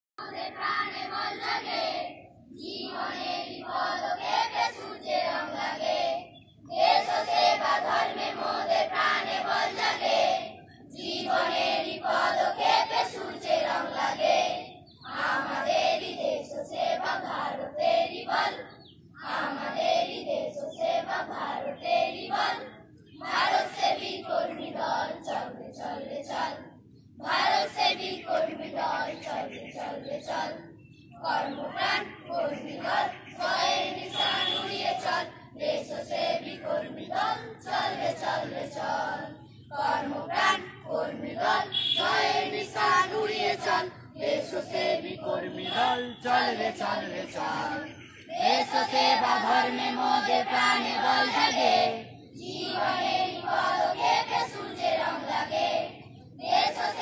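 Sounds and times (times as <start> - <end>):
children's voices in unison: 0.2 - 26.6, 31.3 - 45.9, 46.5 - 57.0.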